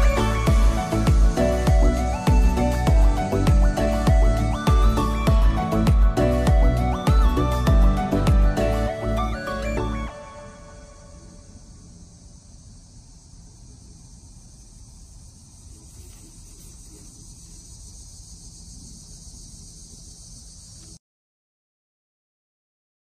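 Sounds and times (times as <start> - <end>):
insect chorus chirring: 0.0 - 21.0.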